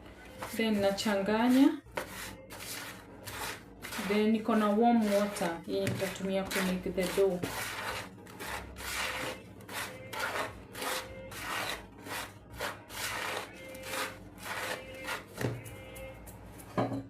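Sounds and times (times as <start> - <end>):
dry ingredients scraping in bowl: 0.3 - 15.4.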